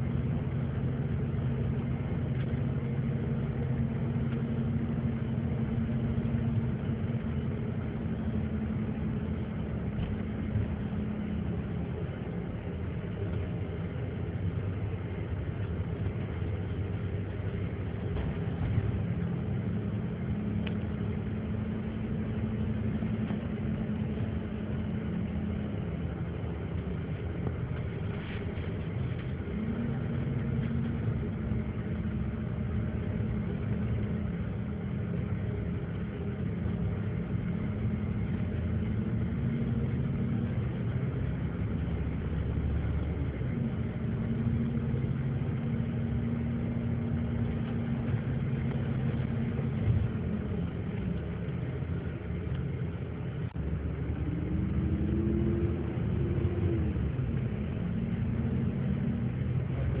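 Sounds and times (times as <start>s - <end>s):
vehicle engine: 0.0s - 60.0s.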